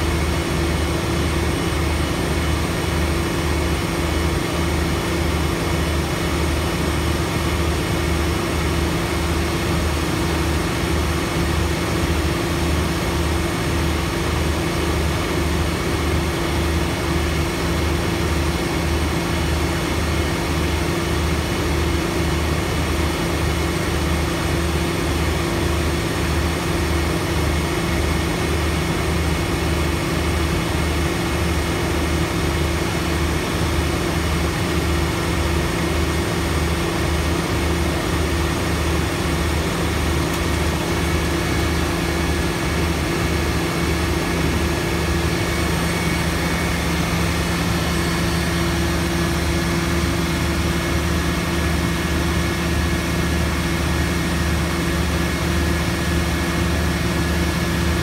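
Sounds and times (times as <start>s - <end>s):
large engine with pulsing hum: 0.0s - 58.0s.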